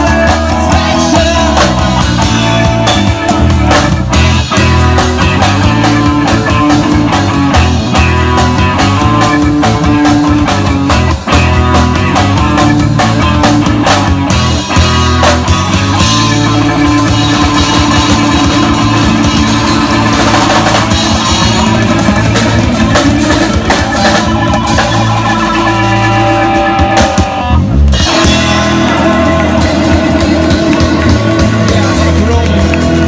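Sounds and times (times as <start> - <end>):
rock band playing: 0.0 - 33.0.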